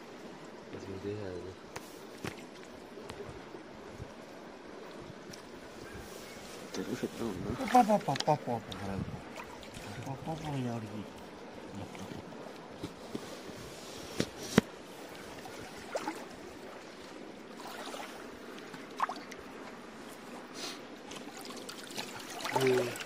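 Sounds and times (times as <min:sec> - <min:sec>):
river water trickling and lapping: 0:00.0 - 0:23.0.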